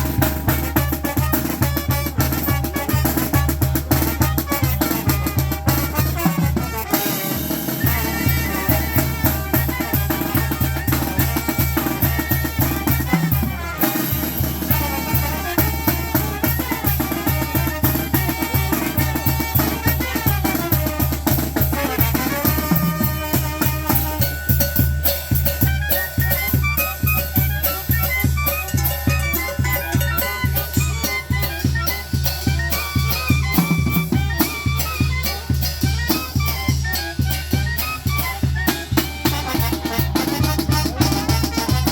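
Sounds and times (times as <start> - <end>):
bass drum beat: 0.0 - 41.9
brass band melody: 0.0 - 41.9.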